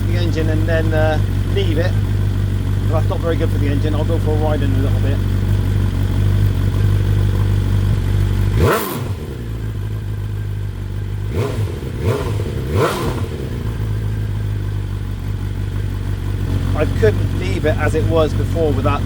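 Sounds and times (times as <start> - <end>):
motorcycle idling and revving: 0.0 - 19.0.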